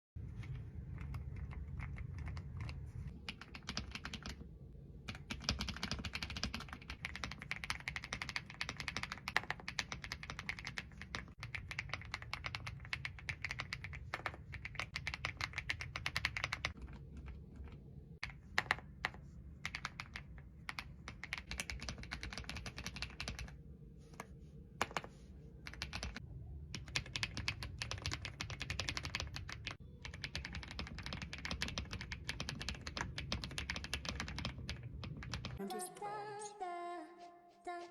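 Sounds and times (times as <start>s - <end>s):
mechanical keyboard typing: 0.4s - 4.4s, 5.0s - 23.6s, 24.8s - 35.6s.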